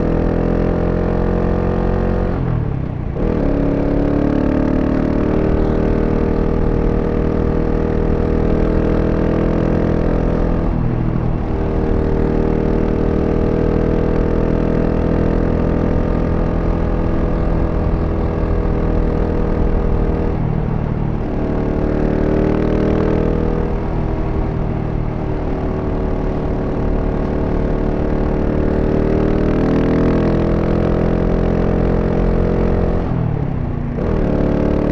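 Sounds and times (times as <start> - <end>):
motorcycle engine revving on road: 0.0 - 34.9.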